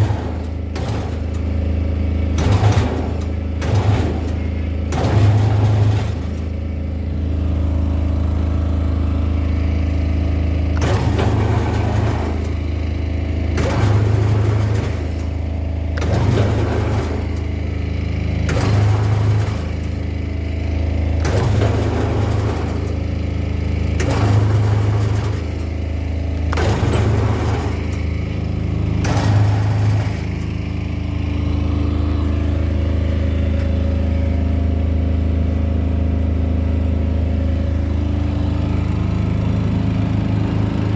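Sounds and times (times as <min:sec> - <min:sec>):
machine grinding and clanking: 0:00.0 - 0:40.9
motor and gearbox hum: 0:00.0 - 0:40.9.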